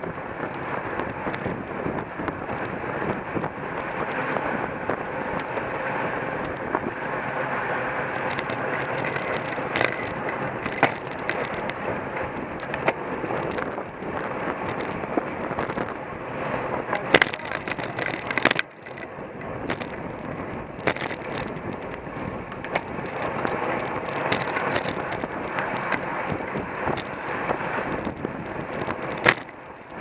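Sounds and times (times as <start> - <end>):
bicycle tyre and road noise: 0.0 - 30.0
sharp clicks and knocks from bike: 0.0 - 30.0
wind rushing over microphone: 0.0 - 30.0.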